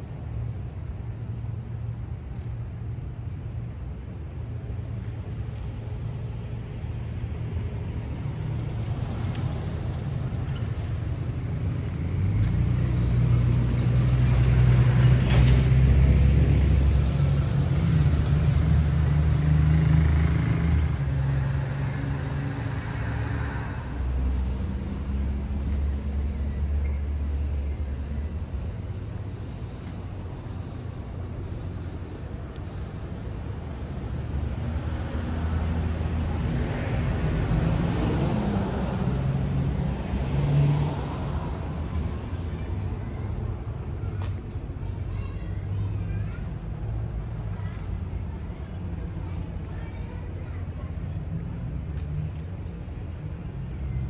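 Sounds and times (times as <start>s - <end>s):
vehicles passing by: 0.0s - 54.0s.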